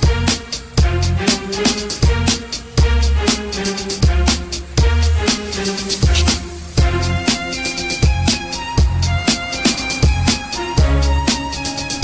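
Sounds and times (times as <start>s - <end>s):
hip hop music with heavy bass: 0.0s - 12.0s.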